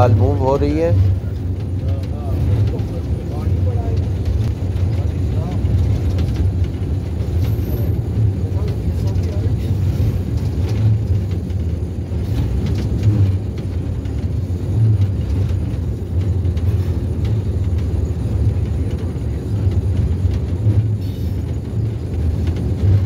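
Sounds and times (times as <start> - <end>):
train rumble from on board: 0.0 - 23.0.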